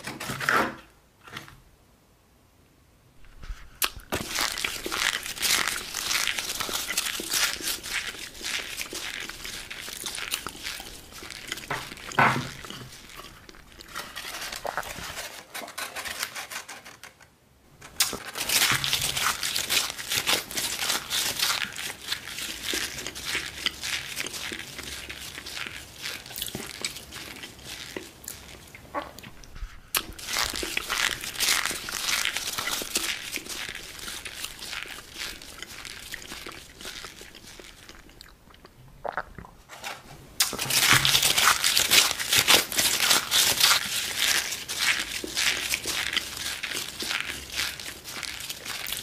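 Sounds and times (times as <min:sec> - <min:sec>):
paper and cardboard crinkling: 0:03.2 - 0:28.7, 0:29.3 - 0:38.1, 0:39.7 - 0:49.0.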